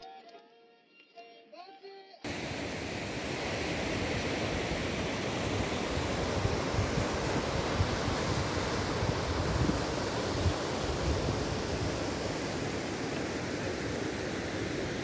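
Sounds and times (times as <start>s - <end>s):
steady rushing noise: 2.3s - 15.0s.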